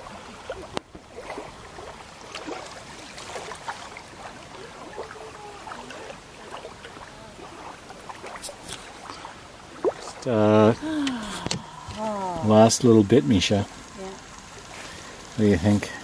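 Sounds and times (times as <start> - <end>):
small water splashes: 0.0 - 16.0
water trickling and lapping: 0.0 - 16.0.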